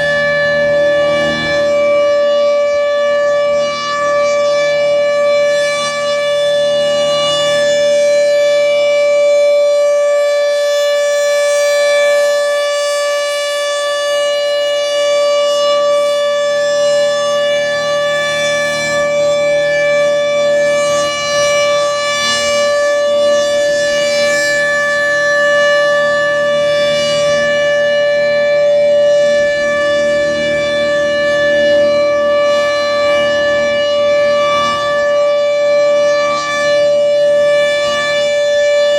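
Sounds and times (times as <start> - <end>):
warning siren sustained tone: 0.0 - 38.9.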